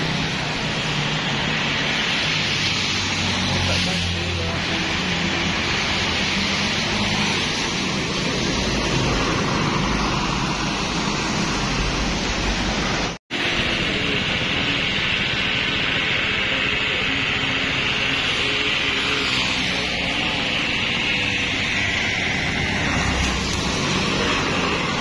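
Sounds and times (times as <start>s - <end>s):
traffic on wet road: 0.0s - 25.0s.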